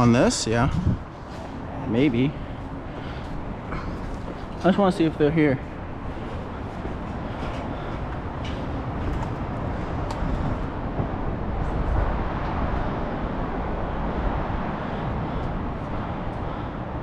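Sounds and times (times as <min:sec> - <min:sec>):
wind on microphone: 0:00.0 - 0:04.4, 0:05.8 - 0:17.0
distant city traffic rumble: 0:00.0 - 0:17.0.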